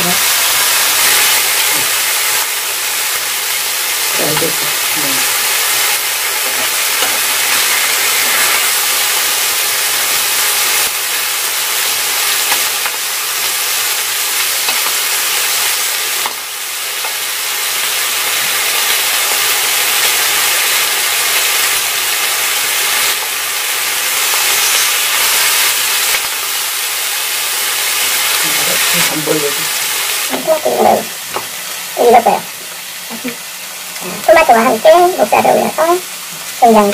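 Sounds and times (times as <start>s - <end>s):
food sizzling on a grill pan: 0.0s - 36.9s.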